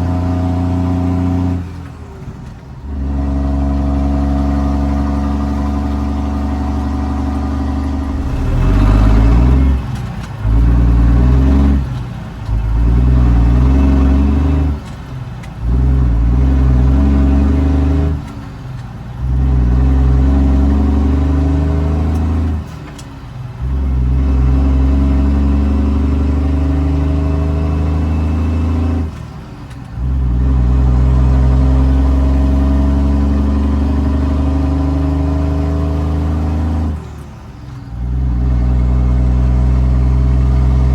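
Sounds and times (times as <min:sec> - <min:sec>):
diesel truck engine shifting gears: 0:00.0 - 0:40.9.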